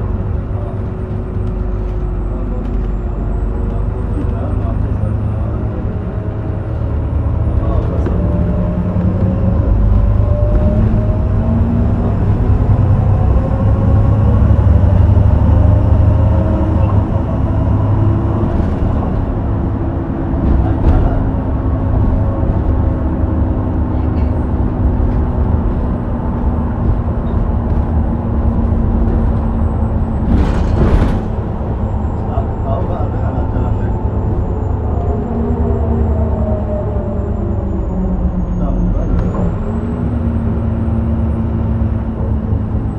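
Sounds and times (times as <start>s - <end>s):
bus diesel engine rumbling: 0.0s - 42.9s.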